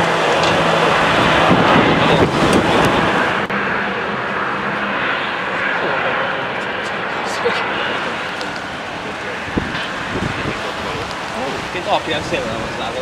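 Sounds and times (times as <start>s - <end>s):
jet engine rushing: 0.0s - 13.0s
low hum: 0.0s - 13.0s.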